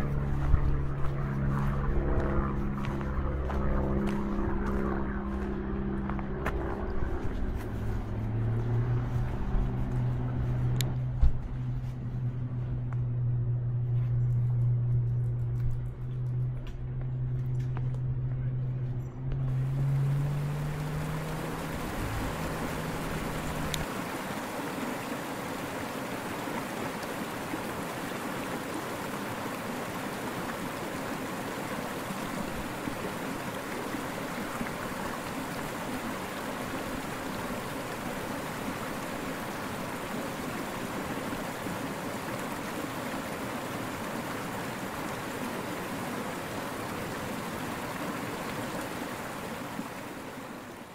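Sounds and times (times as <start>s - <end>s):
water rushing over stones: 0.0s - 12.1s, 19.5s - 50.9s.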